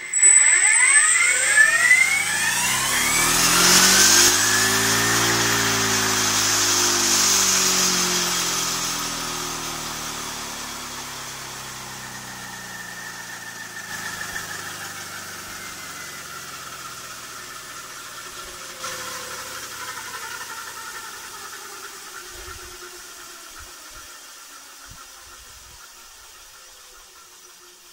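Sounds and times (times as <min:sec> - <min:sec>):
spinning weapon winding down: 0:00.0 - 0:27.9
steady mechanical running sound: 0:00.0 - 0:27.9.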